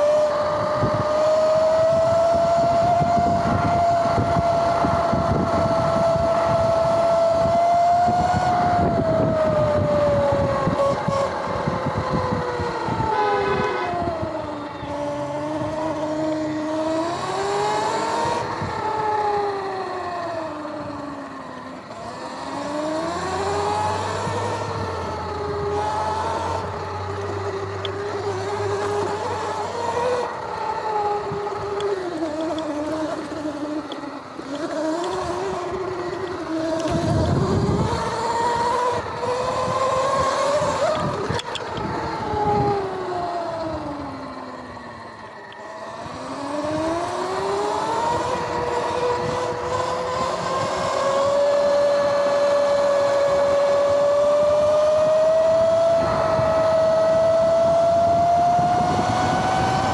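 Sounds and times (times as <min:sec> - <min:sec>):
electric dirt bike whining: 0:00.0 - 0:59.9.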